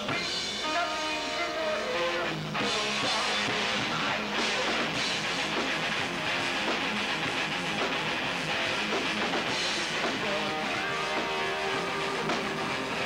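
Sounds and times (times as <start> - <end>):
distorted electric guitar: 0.0 - 13.0
drum kit: 0.0 - 13.0.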